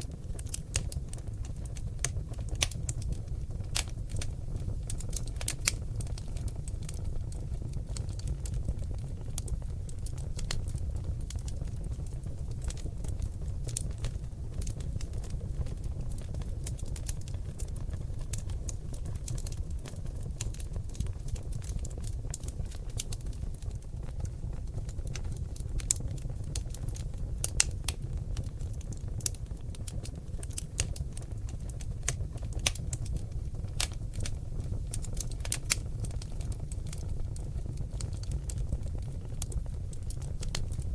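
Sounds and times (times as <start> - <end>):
logs crackling in fireplace: 0.0 - 40.9
loud fire pops: 0.0 - 40.9
low rumble of fire: 0.0 - 40.9.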